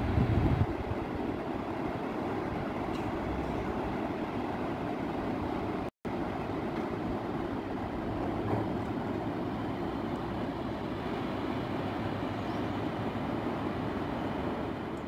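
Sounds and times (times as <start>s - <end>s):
river white water roaring: 0.8s - 15.0s.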